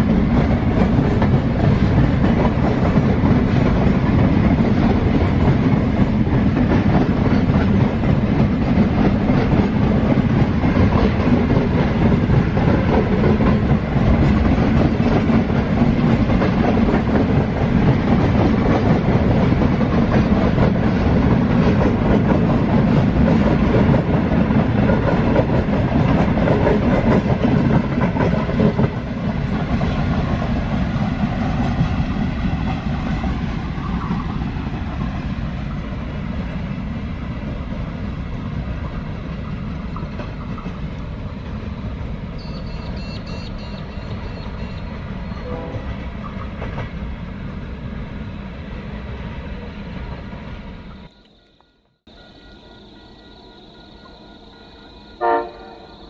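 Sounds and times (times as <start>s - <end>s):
freight train wheels clattering: 0.0s - 47.2s.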